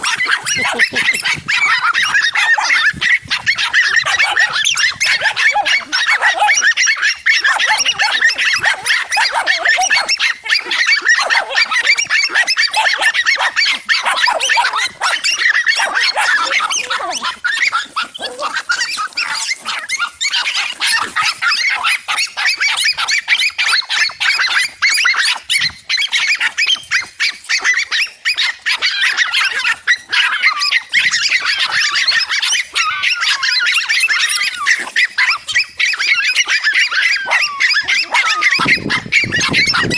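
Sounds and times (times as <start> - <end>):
dogs barking and yelping: 0.0 - 39.9.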